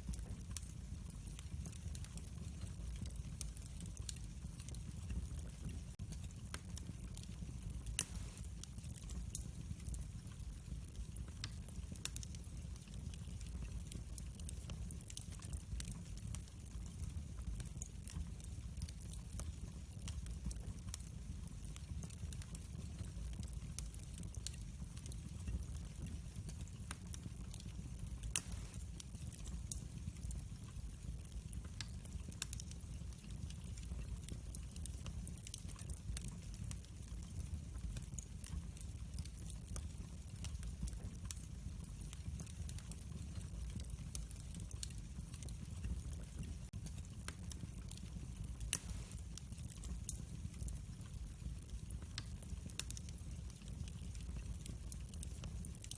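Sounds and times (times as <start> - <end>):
low rumble of flames: 0.0 - 55.9
wood fire crackling: 0.0 - 55.9.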